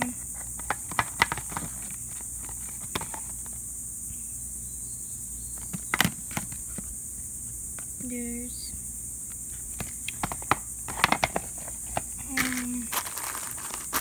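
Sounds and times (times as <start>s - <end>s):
high-pitched hiss: 0.0s - 14.0s.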